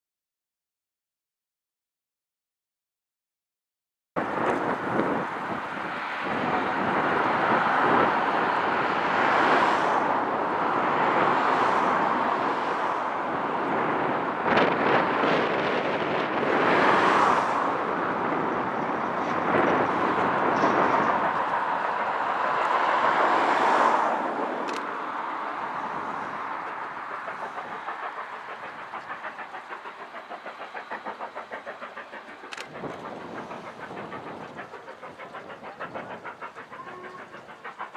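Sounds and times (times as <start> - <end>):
distant steam locomotive exhaust: 4.2 - 37.9.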